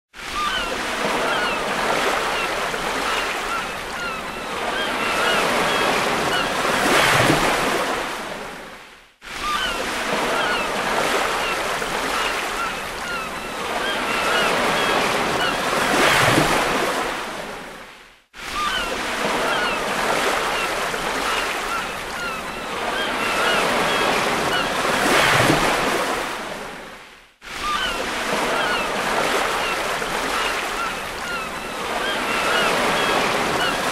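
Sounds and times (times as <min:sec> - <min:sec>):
ocean waves crashing: 0:00.2 - 0:33.9.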